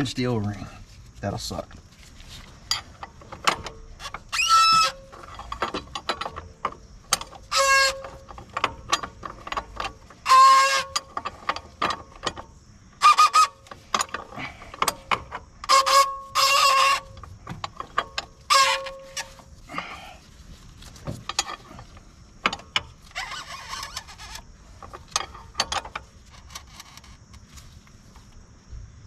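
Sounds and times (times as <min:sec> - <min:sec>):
short squeaks of o-ring: 0:02.6 - 0:19.9, 0:21.0 - 0:27.3.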